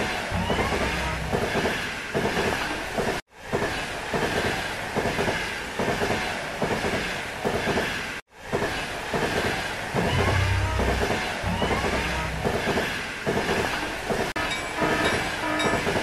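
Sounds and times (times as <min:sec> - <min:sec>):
train wheels clattering on rails: 0:00.0 - 0:16.0.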